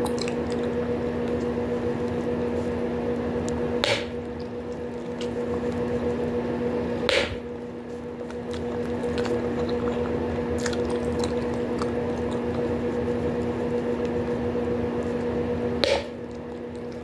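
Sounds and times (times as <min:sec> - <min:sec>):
chewing gum: 0:00.0 - 0:02.8, 0:04.2 - 0:06.4, 0:07.5 - 0:15.4, 0:16.2 - 0:17.0
steady low hum: 0:00.0 - 0:17.0.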